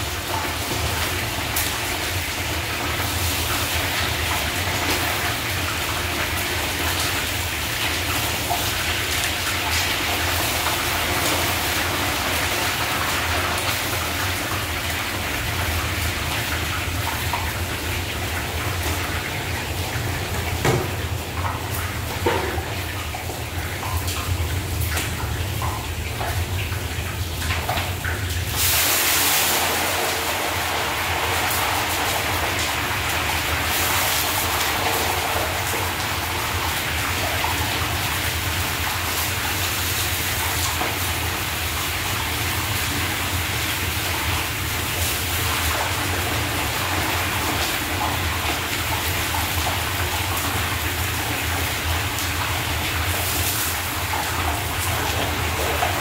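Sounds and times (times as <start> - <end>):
meat sizzling in hot oil: 0.0 - 26.5, 28.4 - 56.0.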